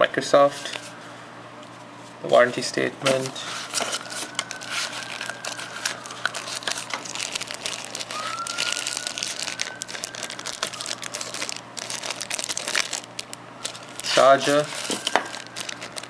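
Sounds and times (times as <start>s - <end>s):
plastic wrap crinkling: 3.0s - 16.0s.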